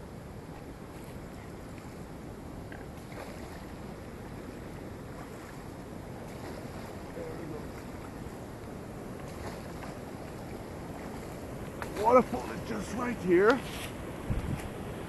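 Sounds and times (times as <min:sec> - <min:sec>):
fast river rushing: 0:00.0 - 0:15.0
wind rumble on microphone: 0:00.0 - 0:15.0.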